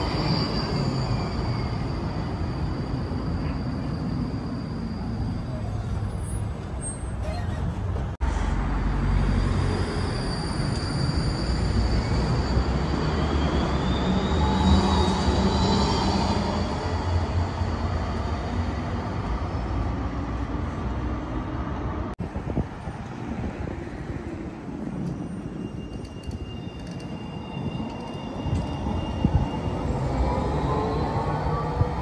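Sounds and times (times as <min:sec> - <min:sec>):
tram rumbling on rails: 0:00.0 - 0:32.0.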